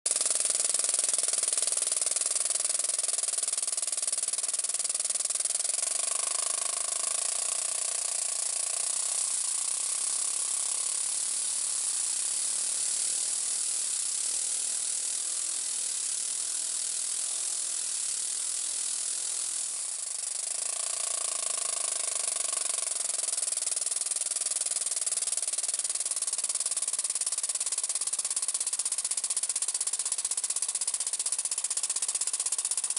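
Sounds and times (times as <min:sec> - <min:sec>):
small engine exhaust hissing: 0:00.1 - 0:32.9.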